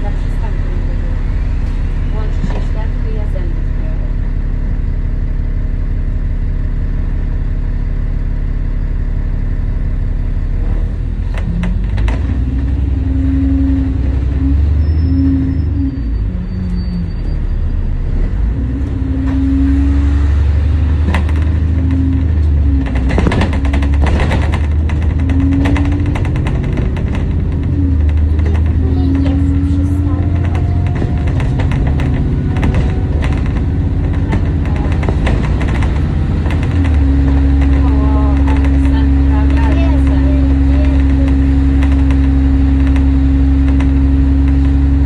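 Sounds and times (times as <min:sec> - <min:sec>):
bus body knocks and rattles: 0:00.0 - 0:04.0, 0:10.2 - 0:17.4, 0:18.0 - 0:45.0
bus engine running: 0:00.0 - 0:45.0.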